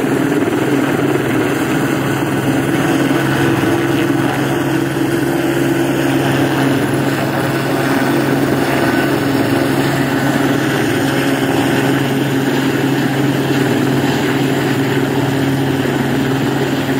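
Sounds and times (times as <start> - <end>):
helicopter rotor and engine: 0.0 - 16.9.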